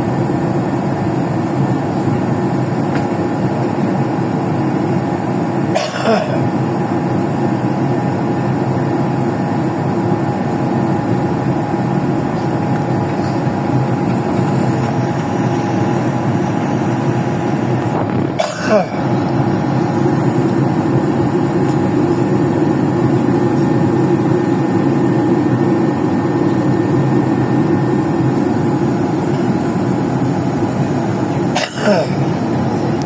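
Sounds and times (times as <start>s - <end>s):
airliner cabin engine and air noise: 0.0s - 33.0s.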